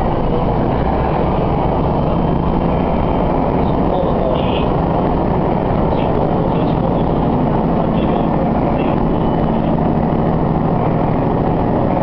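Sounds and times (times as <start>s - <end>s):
railcar engine drone: 0.0s - 12.0s.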